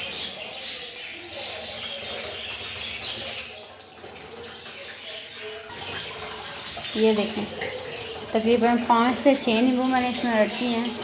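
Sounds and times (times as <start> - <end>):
liquid trickling and splashing: 0.0 - 11.0.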